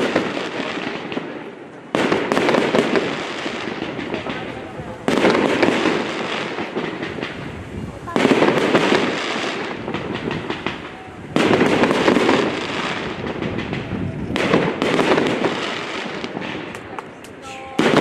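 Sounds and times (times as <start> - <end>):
fireworks bang and crackle: 0.0 - 18.0.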